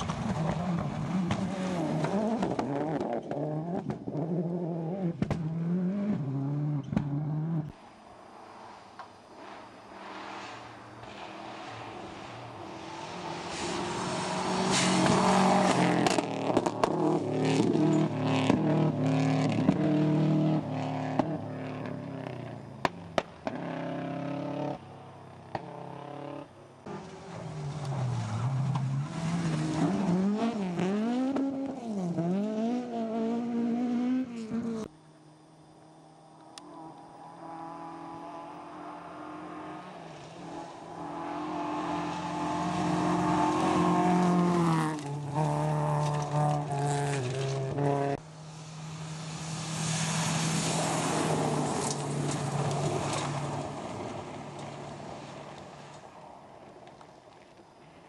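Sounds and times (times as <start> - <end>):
rally car engines revving: 0.0 - 7.8, 10.0 - 24.8, 25.5 - 34.9, 36.0 - 55.3
car approaching: 0.0 - 58.0.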